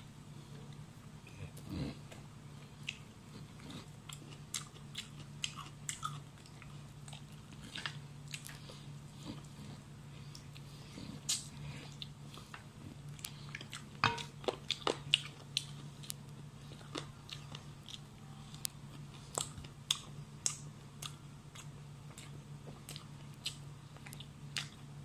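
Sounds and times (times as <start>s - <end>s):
steady low hum: 0.0s - 25.0s
chewing and lip smacks: 1.5s - 24.9s.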